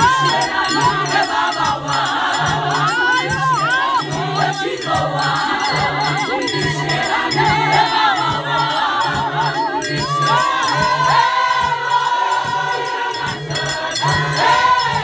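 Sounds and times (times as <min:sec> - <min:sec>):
steady rhythmic beat: 0:00.0 - 0:15.0
women singing in chorus: 0:00.0 - 0:15.0.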